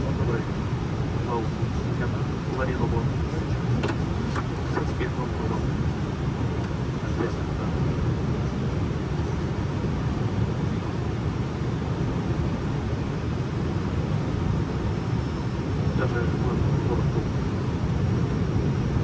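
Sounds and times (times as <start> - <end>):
airplane cockpit engine rumble: 0.0 - 19.0.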